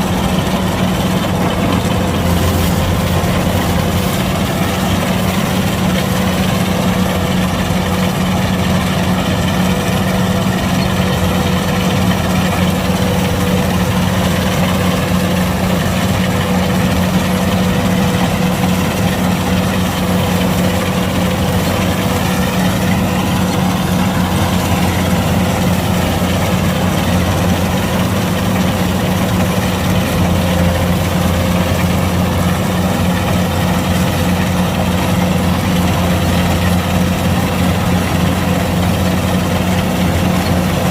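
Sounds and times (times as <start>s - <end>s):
combine harvester diesel engine: 0.0s - 40.9s.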